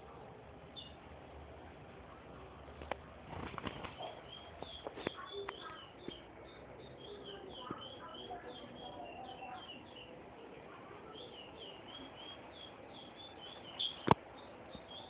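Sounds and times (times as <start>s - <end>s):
songbird chirping: 0.7s - 1.1s, 2.4s - 15.0s.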